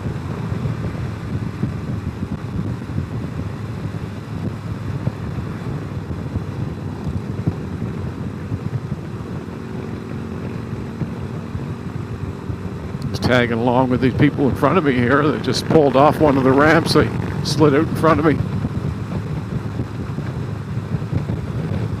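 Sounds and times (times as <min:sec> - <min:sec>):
motorcycle engine running: 0:00.0 - 0:22.0
road noise: 0:00.0 - 0:22.0
wind buffeting microphone: 0:00.0 - 0:22.0.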